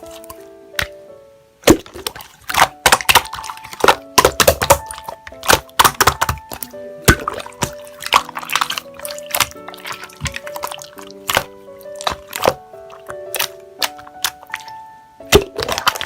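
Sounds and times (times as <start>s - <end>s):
piano background music: 0.0s - 16.0s
slime squishing and popping: 1.6s - 16.0s.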